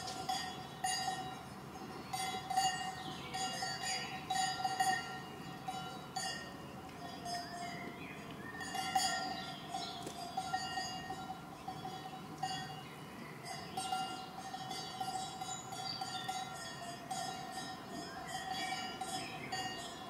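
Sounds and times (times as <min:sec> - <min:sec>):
cowbells clanking: 0:00.0 - 0:20.0.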